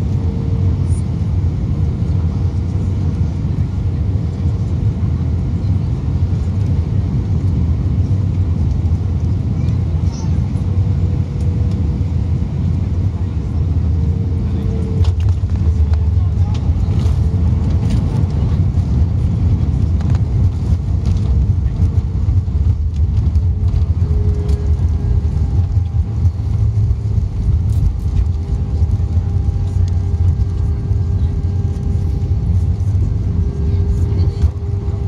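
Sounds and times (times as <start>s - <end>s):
airplane cabin low rumble: 0.0s - 35.0s
steady engine tone: 0.0s - 35.0s.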